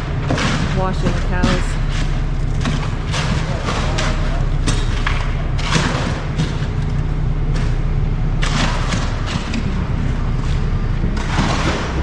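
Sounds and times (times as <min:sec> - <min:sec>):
heavy machine engine rumbling: 0:00.0 - 0:12.0.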